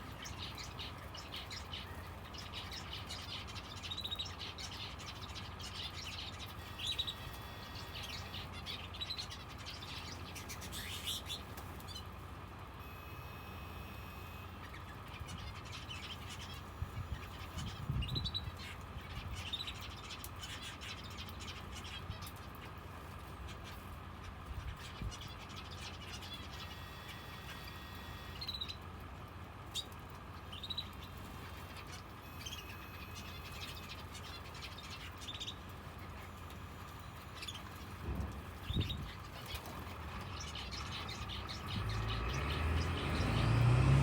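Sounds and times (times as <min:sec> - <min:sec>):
finches chirping: 0:00.0 - 0:12.1, 0:12.8 - 0:22.6, 0:24.6 - 0:28.8, 0:29.7 - 0:43.6
steady low hum: 0:00.0 - 0:42.4.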